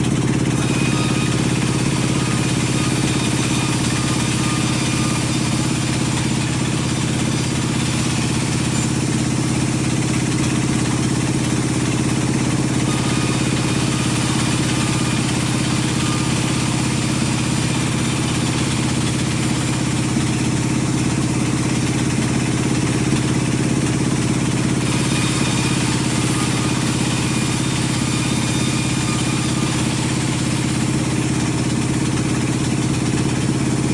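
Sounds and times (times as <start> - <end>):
sawmill machinery humming: 0.0 - 33.9.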